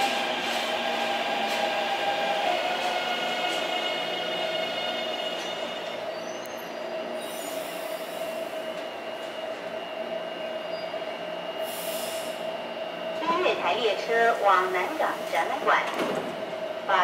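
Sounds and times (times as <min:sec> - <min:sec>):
train braking whine: 0:00.0 - 0:15.5
train steady hum: 0:00.0 - 0:17.0.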